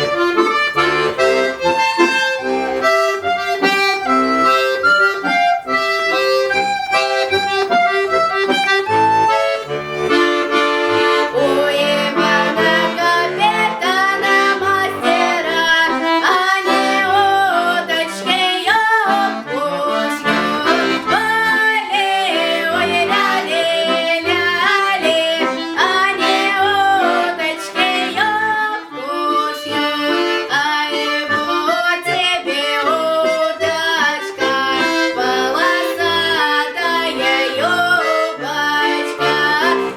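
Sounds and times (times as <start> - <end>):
accordion playing folk tune: 0.0 - 39.9.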